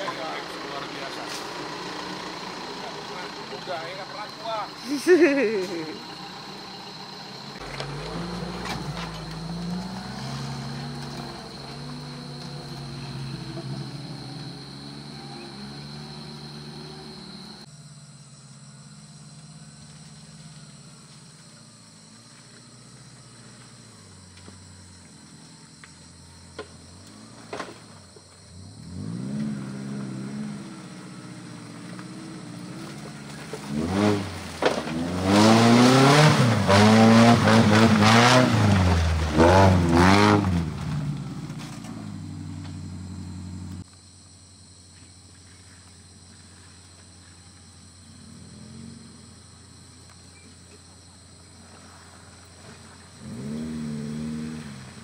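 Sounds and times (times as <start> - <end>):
off-road engine revving: 0.0 - 43.8, 47.9 - 55.0.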